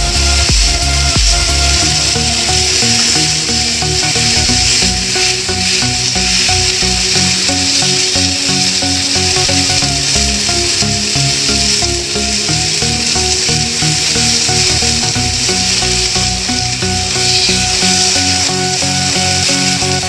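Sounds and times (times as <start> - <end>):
chicken sizzling in grill pan: 0.0 - 20.0
instrumental music: 0.0 - 20.0
wooden spatula scraping a pan: 0.1 - 20.0.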